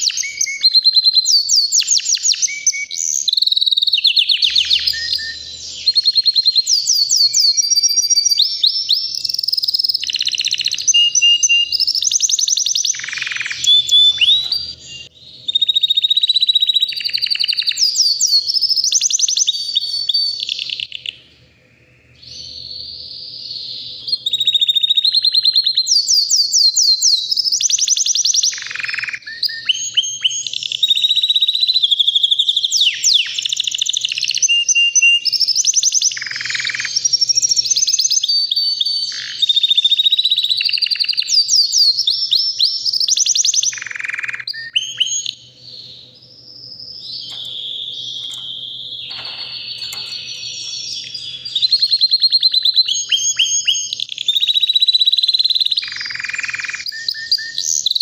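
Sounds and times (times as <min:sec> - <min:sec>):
canary singing trills: 0:00.0 - 0:21.3, 0:22.0 - 0:58.0.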